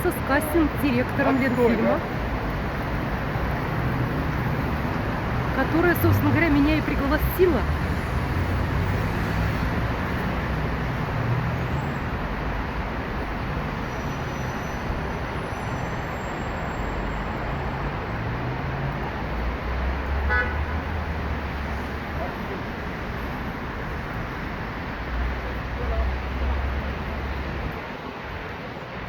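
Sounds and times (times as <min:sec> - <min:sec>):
road traffic engines and tyres: 0:00.0 - 0:29.0.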